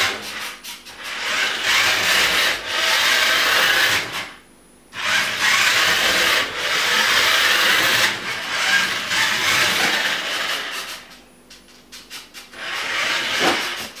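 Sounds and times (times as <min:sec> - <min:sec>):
toy car motor whirring: 0:00.0 - 0:04.1, 0:05.0 - 0:11.2, 0:11.9 - 0:14.0.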